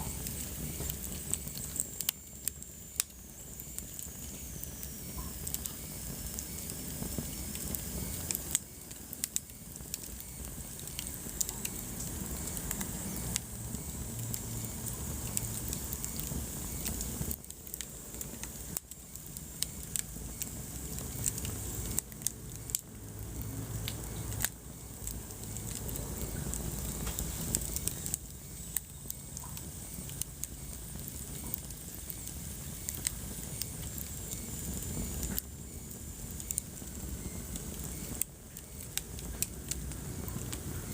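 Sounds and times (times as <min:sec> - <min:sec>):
sharp pops and snaps: 0:00.0 - 0:40.7
low rumble of flames: 0:00.0 - 0:40.9
wood fire crackling: 0:00.0 - 0:40.9.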